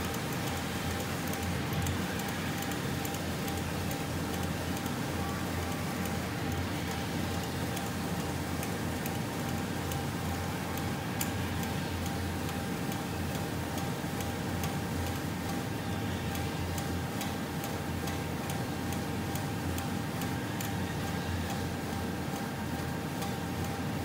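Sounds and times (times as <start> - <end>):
conveyor motor hum with whine: 0.0 - 24.0
light regular ticking: 0.0 - 24.0.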